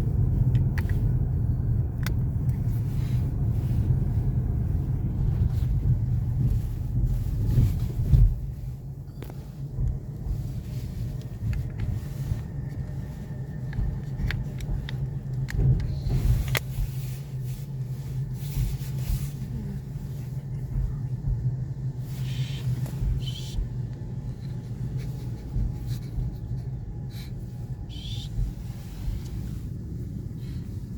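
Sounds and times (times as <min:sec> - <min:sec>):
low engine rumble: 0:00.0 - 0:30.9.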